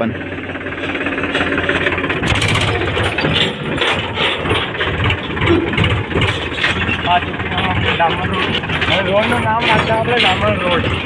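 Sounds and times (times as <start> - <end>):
tractor engine running: 0.0 - 11.0
mechanical rattle and clatter: 0.2 - 11.0.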